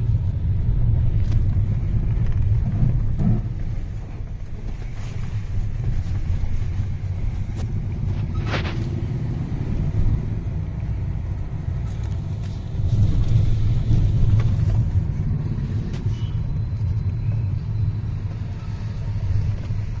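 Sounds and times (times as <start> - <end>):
car engine and tyres rumble: 0.0 - 20.0.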